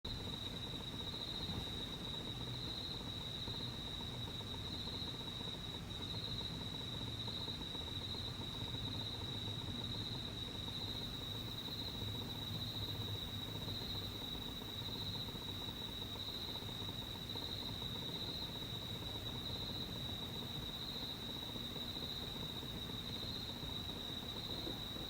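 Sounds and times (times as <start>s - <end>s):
crickets trilling: 0.1s - 25.0s.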